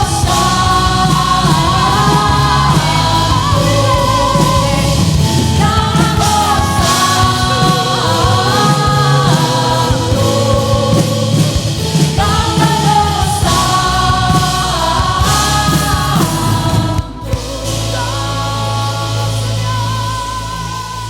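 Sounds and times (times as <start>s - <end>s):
worship band and singers: 0.0s - 21.0s.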